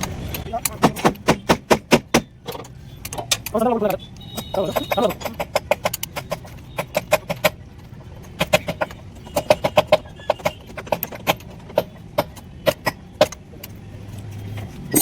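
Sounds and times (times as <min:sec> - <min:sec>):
metallic knocks and clinks of tools: 0:00.0 - 0:13.8.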